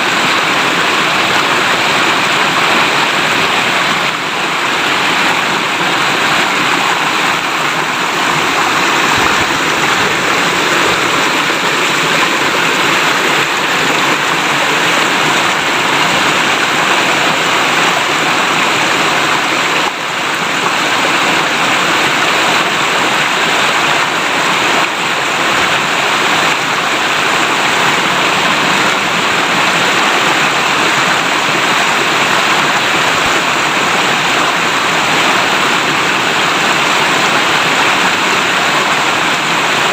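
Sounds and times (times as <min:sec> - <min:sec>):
river water flowing and babbling: 0:00.0 - 0:39.9.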